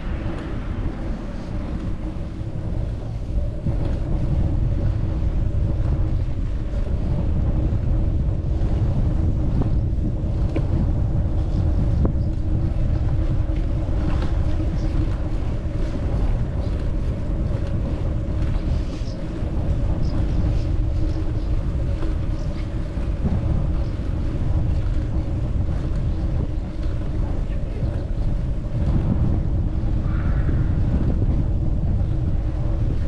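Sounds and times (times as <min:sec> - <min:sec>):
steady mechanical hum: 0:00.0 - 0:33.0
wind buffeting microphone: 0:00.0 - 0:33.0.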